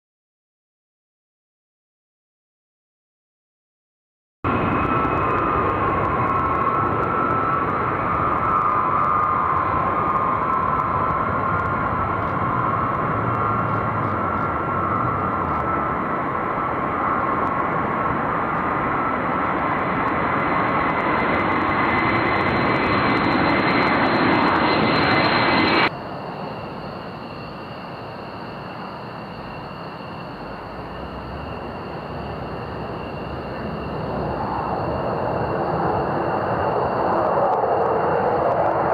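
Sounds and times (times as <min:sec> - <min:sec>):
jet engine whining: 0:04.5 - 0:38.9
jet engines roaring at takeoff: 0:04.5 - 0:38.9.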